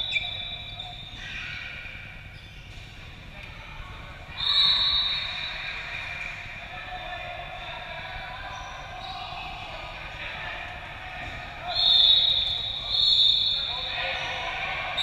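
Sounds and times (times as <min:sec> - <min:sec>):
faint voices: 0:02.9 - 0:15.0.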